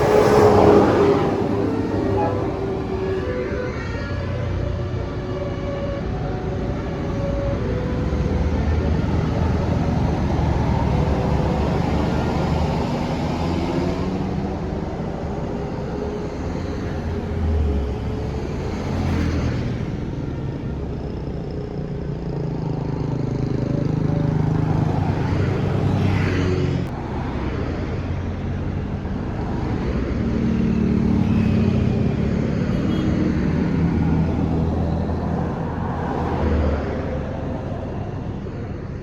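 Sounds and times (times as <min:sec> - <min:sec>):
vehicles passing by: 0:00.0 - 0:39.0.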